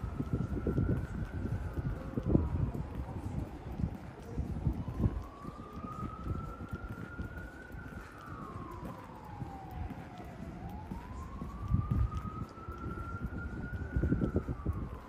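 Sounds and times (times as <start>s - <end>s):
emergency siren wailing: 0.0s - 15.0s
low street rumble: 0.0s - 15.0s.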